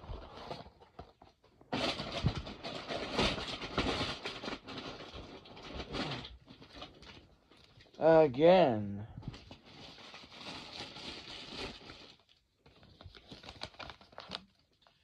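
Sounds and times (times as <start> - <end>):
packaging rustling and crinkling: 0.0 - 8.0, 9.2 - 15.0.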